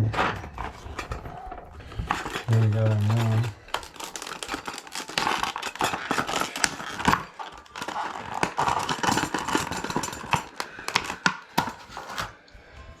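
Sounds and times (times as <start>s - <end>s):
plastic packaging crinkling: 0.5s - 12.4s.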